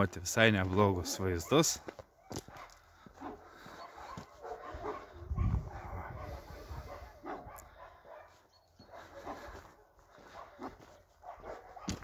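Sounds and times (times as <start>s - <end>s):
dog barking: 2.2s - 12.0s.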